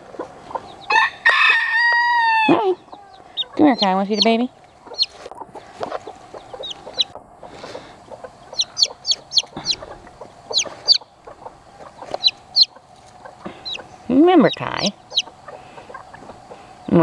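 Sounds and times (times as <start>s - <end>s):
chicks peeping: 0.0s - 17.0s
hens clucking: 0.0s - 17.0s.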